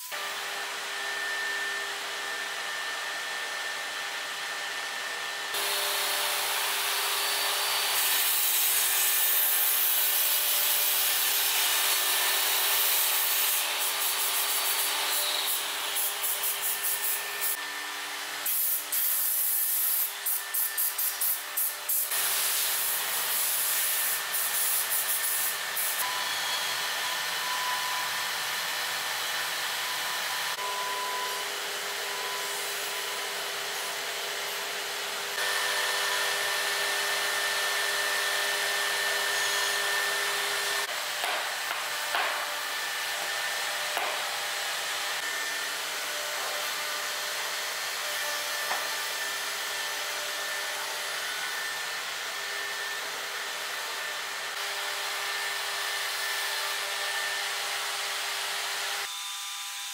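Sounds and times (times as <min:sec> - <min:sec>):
power tool running: 0:00.0 - 0:59.9
table saw cutting wood: 0:00.0 - 0:59.9.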